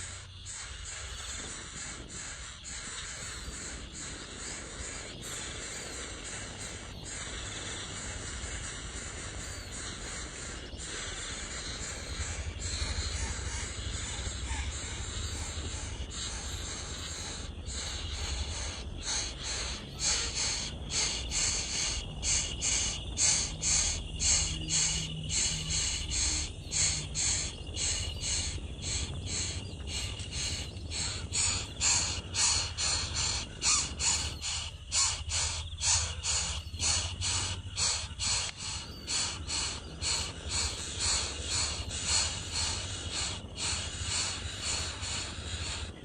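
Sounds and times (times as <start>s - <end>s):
bird calling harshly: 0.0s - 46.0s
insects hissing: 0.0s - 46.0s.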